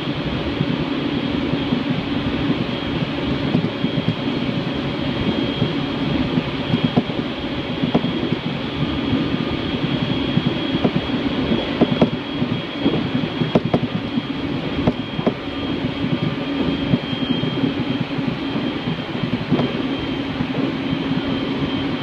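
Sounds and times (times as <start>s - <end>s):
thin high whine: 0.0s - 22.0s
train wheels rumbling on rail: 0.0s - 22.0s.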